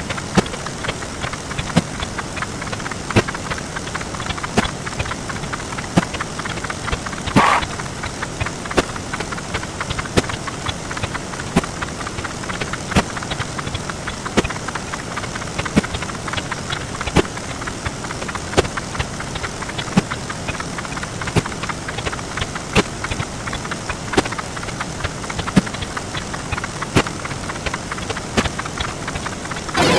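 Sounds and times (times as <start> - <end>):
hiss full of small clicks: 0.0 - 29.9.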